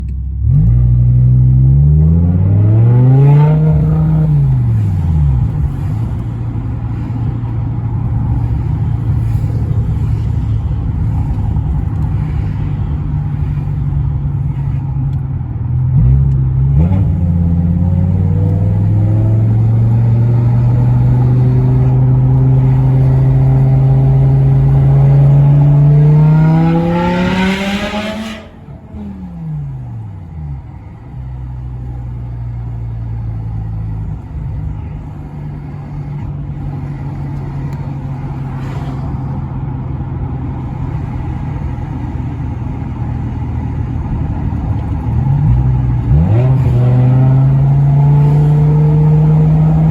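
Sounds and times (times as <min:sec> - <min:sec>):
car engine accelerating: 0:00.4 - 0:12.4, 0:15.8 - 0:49.9.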